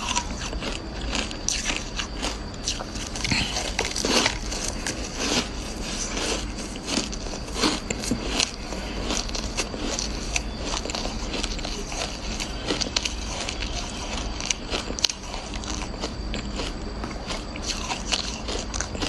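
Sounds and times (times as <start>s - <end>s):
shaved ice crunching: 0.0s - 16.7s.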